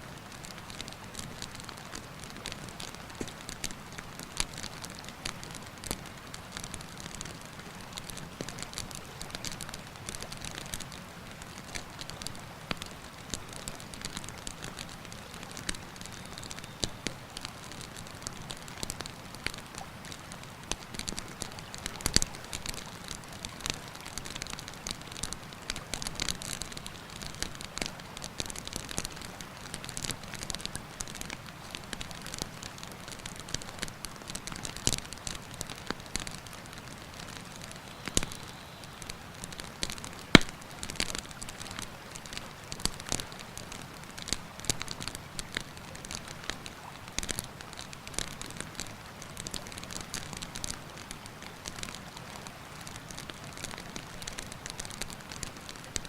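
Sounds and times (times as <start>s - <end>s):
campfire crackling and popping: 0.2s - 56.0s.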